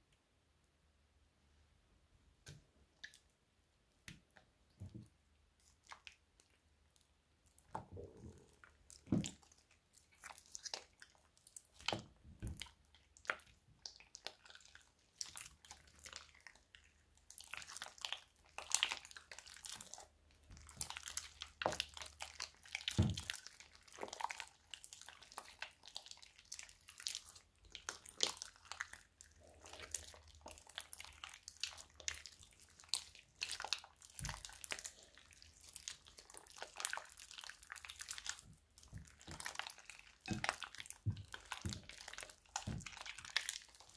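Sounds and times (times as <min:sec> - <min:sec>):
slime squishing: 0:02.4 - 0:43.9.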